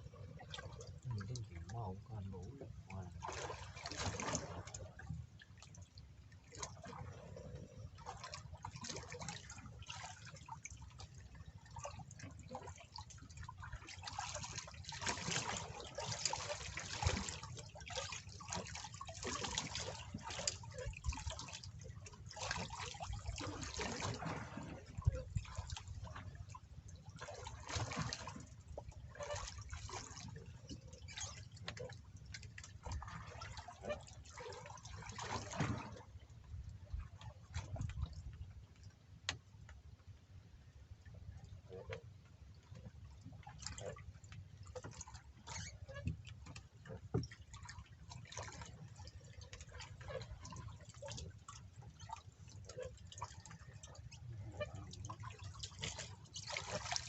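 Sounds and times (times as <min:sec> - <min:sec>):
water splashing and sloshing: 0:00.0 - 0:57.0.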